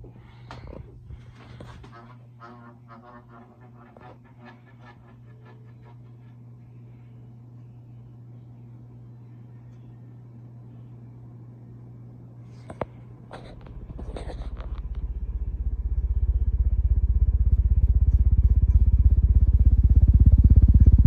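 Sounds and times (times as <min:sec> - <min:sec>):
ceiling fan pulsing rumble: 0:00.0 - 0:21.0.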